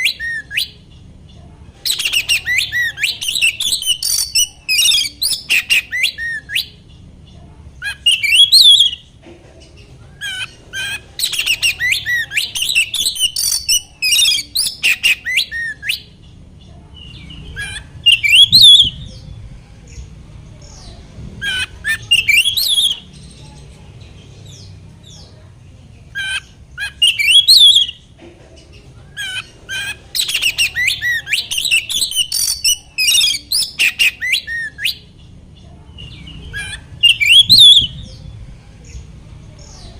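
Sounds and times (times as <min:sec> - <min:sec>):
bird warbling song: 0:00.0 - 0:25.5, 0:26.1 - 0:39.9.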